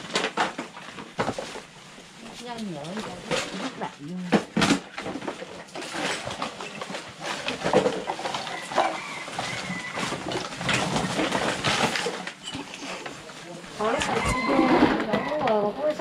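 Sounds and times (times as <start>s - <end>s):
rubbish rustling: 0.0s - 16.0s
small objects clattering: 0.0s - 16.0s.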